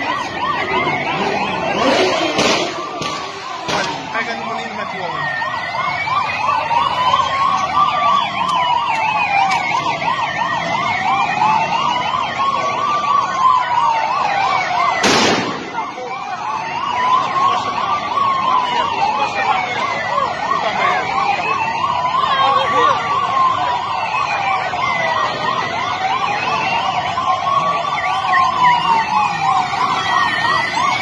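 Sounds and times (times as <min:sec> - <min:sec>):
siren wailing: 0:00.0 - 0:31.0
siren yelp warbling: 0:00.0 - 0:31.0.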